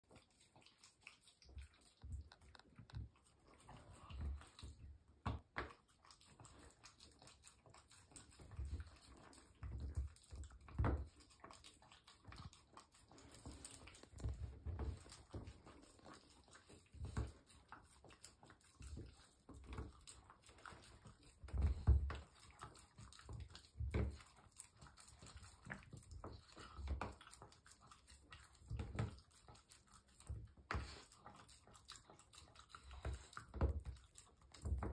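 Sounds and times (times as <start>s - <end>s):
dog licking: 0.0s - 34.9s.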